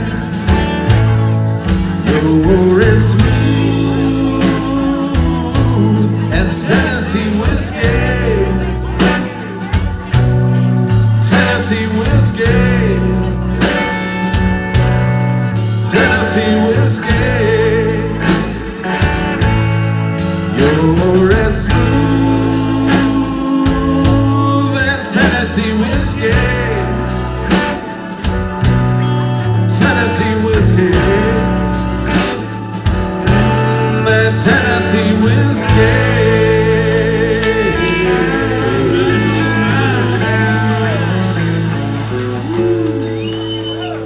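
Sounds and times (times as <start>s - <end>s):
country soul ballad: 0.0s - 44.0s
guitar: 0.0s - 44.0s
steady bass: 0.0s - 44.0s.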